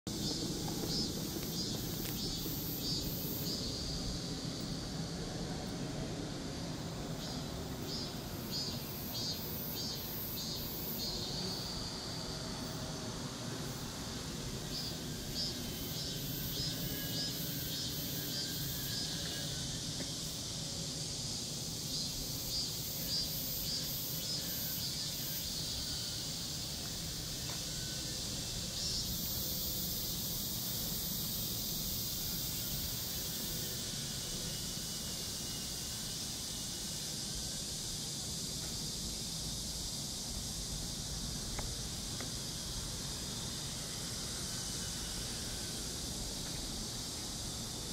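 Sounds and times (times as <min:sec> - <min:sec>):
outdoor background noise: 0:00.1 - 0:47.9.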